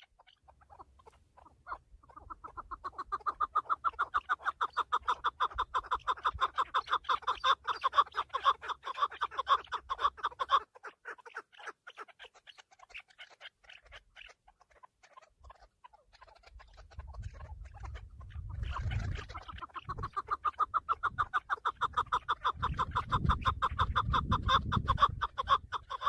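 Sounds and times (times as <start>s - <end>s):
partridges clucking calls: 0.0s - 26.0s.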